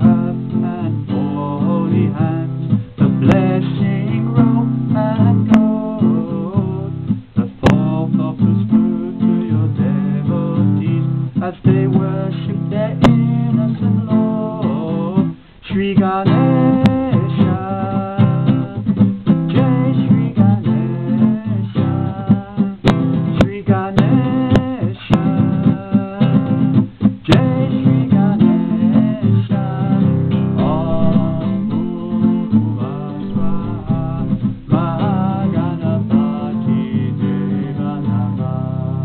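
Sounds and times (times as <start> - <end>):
acoustic guitar strumming: 0.0 - 39.0
man singing: 0.0 - 39.0.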